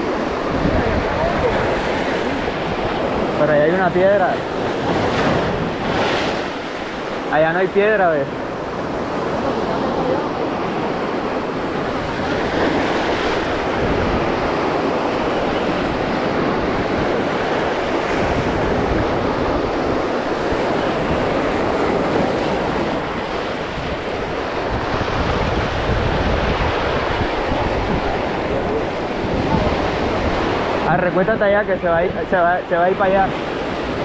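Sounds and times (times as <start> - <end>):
wind buffeting microphone: 0.0 - 7.3, 8.3 - 32.4
surf breaking over rocks: 0.0 - 34.0.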